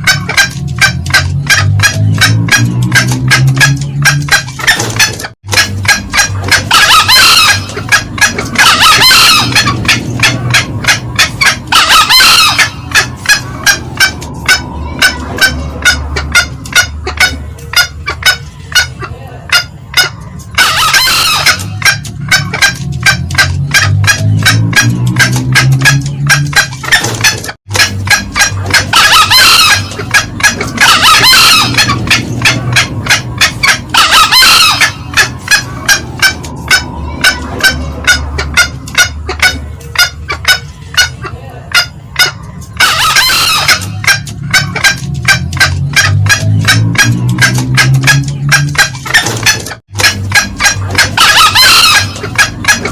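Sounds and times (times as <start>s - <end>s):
harsh junglefowl calls: 0.0s - 52.9s
junglefowl cackling: 0.0s - 52.9s.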